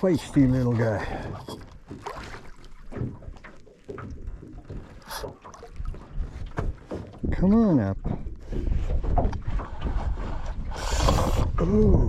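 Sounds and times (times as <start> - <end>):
knocks and clicks in boat: 0.0 - 12.0.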